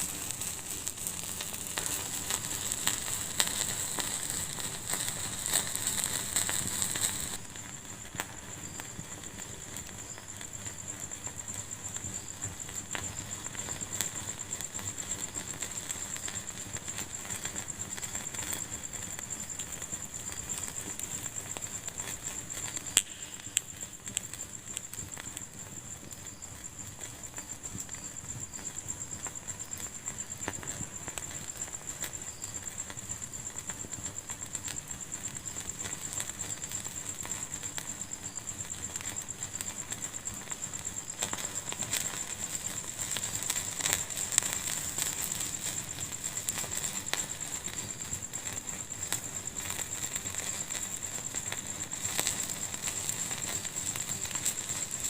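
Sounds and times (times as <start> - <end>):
high-pitched hiss: 0.0 - 55.0
wood fire crackling: 0.0 - 55.0.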